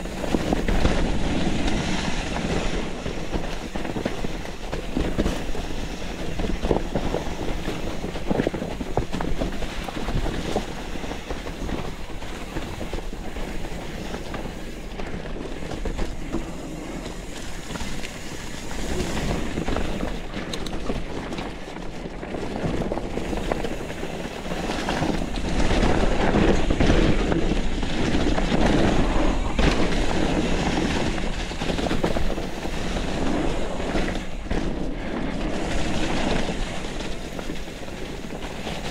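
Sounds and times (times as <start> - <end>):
bike chain and frame rattling: 0.0 - 38.9
bike tyre noise on dirt: 0.0 - 38.9.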